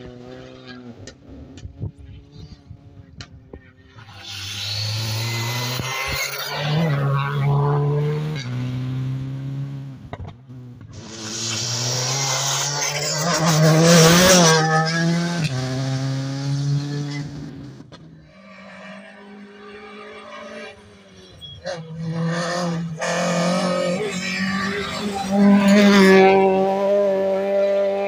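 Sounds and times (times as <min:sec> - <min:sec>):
rally cars passing at high revs: 0:00.0 - 0:28.0.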